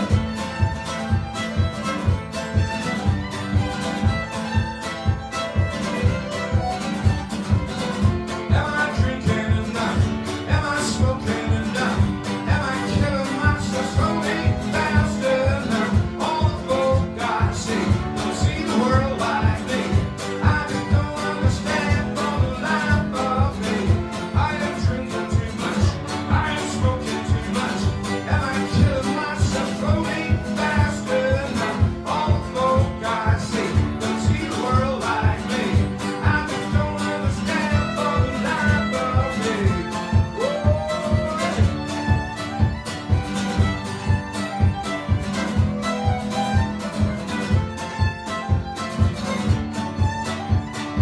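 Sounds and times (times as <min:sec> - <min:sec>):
fiddle playing lively melody: 0:00.0 - 0:51.0
steady beat: 0:00.0 - 0:51.0
strummed guitar: 0:00.0 - 0:51.0.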